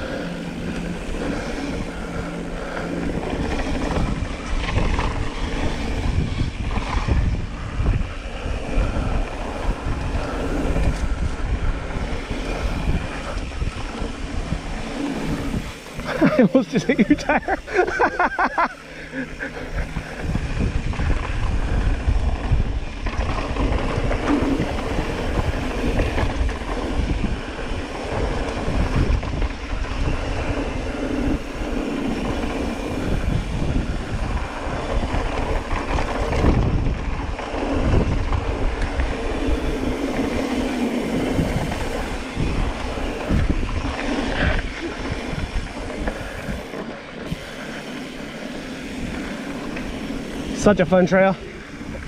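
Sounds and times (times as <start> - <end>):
bike rattling over rocks: 0.0 - 52.0
wind rumble on microphone: 0.0 - 52.0.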